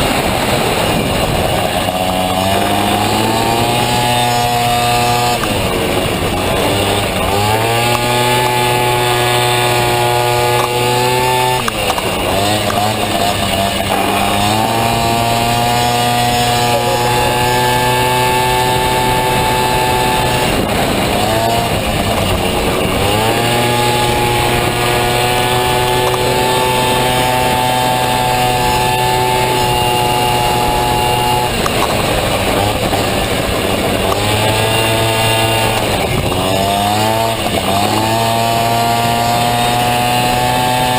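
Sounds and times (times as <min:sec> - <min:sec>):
scooter engine revving: 0:00.0 - 0:40.9.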